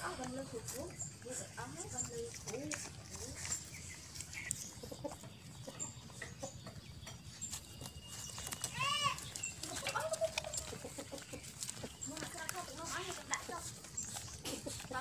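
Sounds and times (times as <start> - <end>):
puppies suckling clicks: 0.0 - 15.0.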